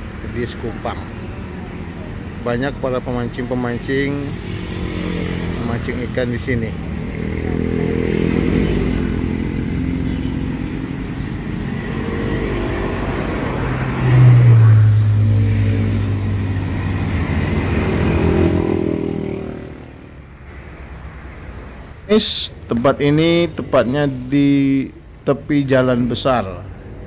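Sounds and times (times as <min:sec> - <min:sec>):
loud low engine hum: 0:00.0 - 0:27.0
motorcycles and cars passing: 0:00.0 - 0:27.0.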